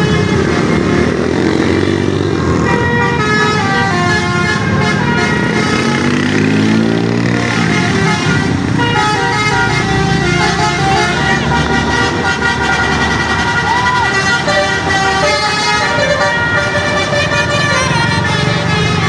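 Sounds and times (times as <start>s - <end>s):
bus engine running: 0.0s - 19.0s
bus multi-tone horn tune: 0.0s - 19.0s.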